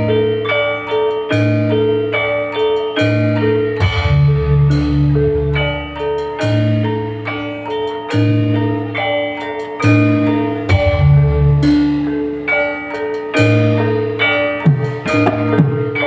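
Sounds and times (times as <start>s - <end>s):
bass line: 0.0s - 16.0s
live band music: 0.0s - 16.0s
ringing pitched melody notes: 0.0s - 16.0s
sharp beat: 0.0s - 16.0s.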